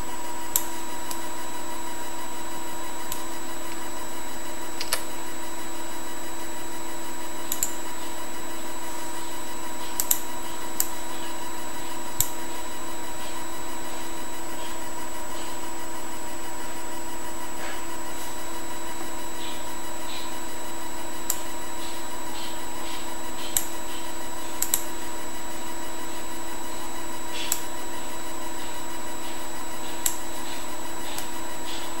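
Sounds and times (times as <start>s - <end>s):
electrical hum and hiss: 0.0s - 32.0s.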